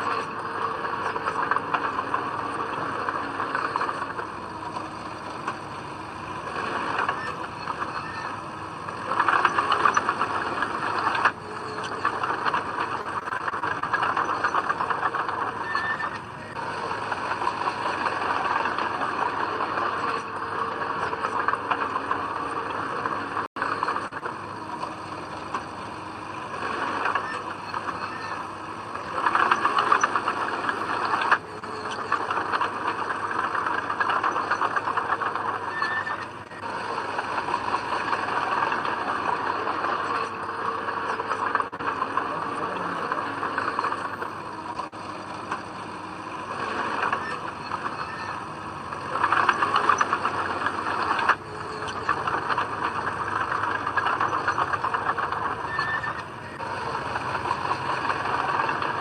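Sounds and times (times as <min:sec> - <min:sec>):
earthmoving machine diesel engine: 0:00.0 - 0:59.0.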